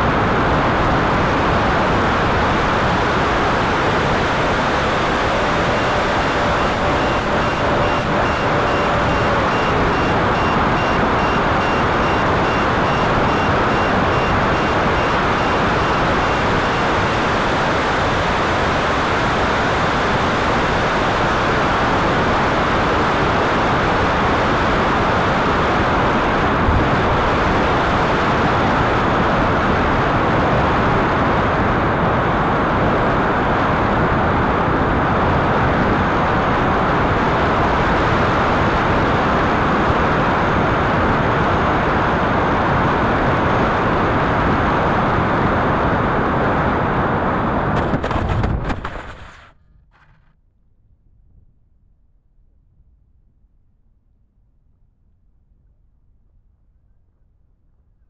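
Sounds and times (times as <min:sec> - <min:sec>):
electric ducted fan whine: 0:00.0 - 0:50.0.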